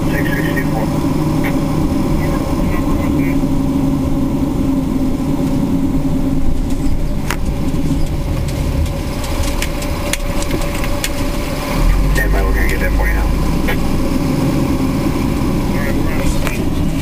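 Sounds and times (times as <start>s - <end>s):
fire engine humming and whining: 0.0s - 17.0s.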